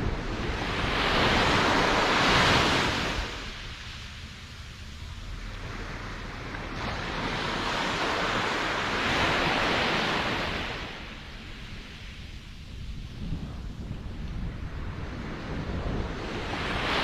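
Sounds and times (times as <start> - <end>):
low rumble of sea: 0.0 - 17.0
ocean wave surging in: 0.0 - 17.0.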